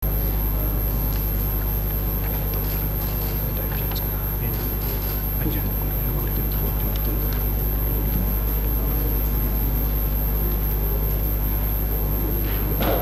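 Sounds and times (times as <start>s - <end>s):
low hum of hall room tone: 0.0s - 13.0s.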